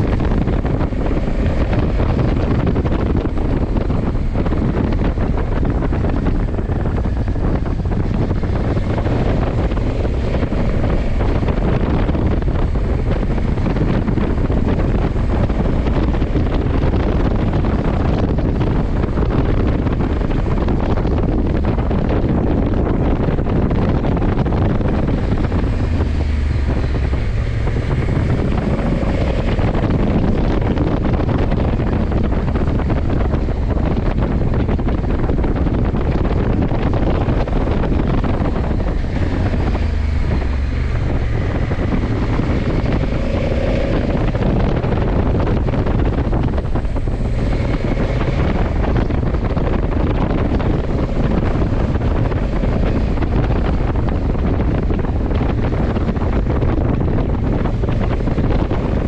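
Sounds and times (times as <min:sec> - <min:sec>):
motorcycle engine drone: 0:00.0 - 0:59.0
road noise: 0:00.0 - 0:59.0
wind buffeting microphone: 0:00.0 - 0:59.0.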